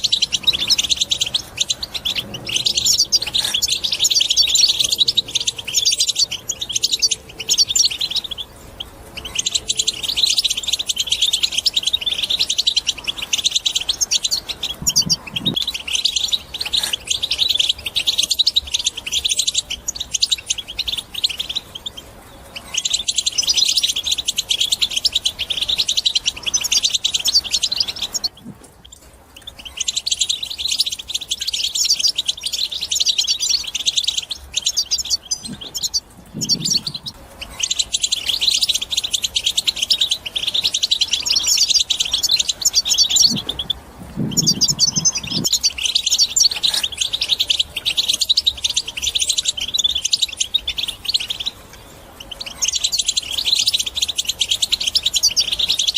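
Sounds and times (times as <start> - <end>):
goldfinch twittering song: 0.0 - 55.9.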